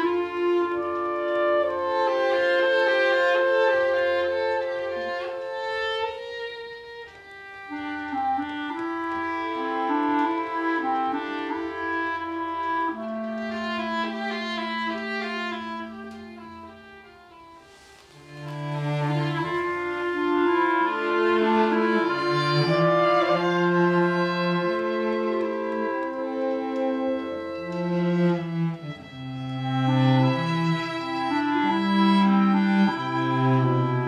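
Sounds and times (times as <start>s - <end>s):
cello: 0.0s - 34.0s
clarinets and violin held notes: 0.0s - 34.0s.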